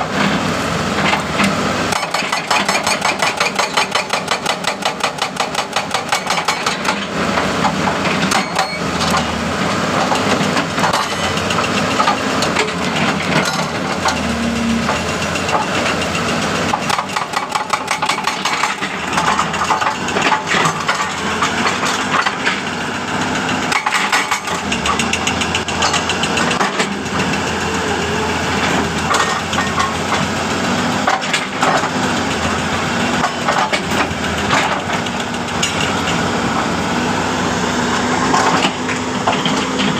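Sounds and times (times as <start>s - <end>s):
engine hum: 0.0s - 39.9s
hydraulic breaker pounding rock: 0.0s - 39.9s.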